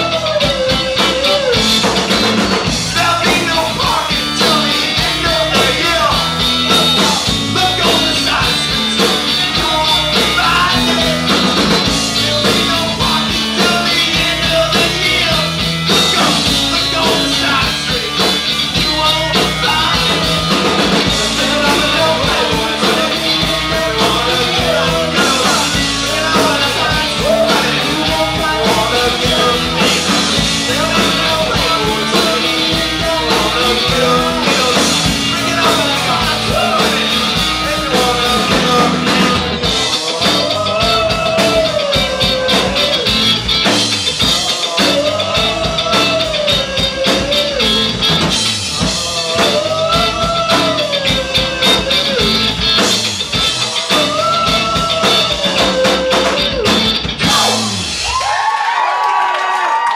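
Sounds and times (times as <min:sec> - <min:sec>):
man singing lead vocals: 0:00.0 - 0:58.3
electric bass: 0:00.0 - 0:58.6
drum kit: 0:00.0 - 0:58.8
electric guitar: 0:00.0 - 0:59.9.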